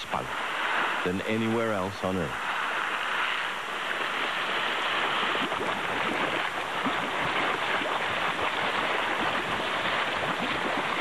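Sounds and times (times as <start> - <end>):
geyser erupting: 0.0 - 11.0
water bubbling and splashing: 0.1 - 11.0.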